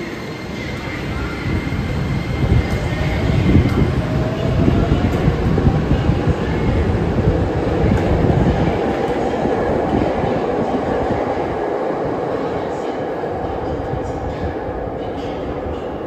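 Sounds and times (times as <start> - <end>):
subway train rumbling in tunnel: 0.0 - 16.0.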